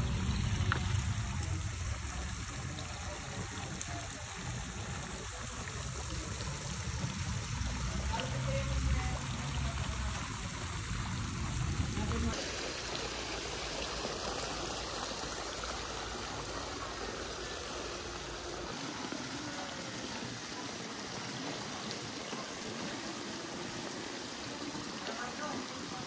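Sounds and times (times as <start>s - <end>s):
fountain water splashing into pool: 0.0s - 26.0s.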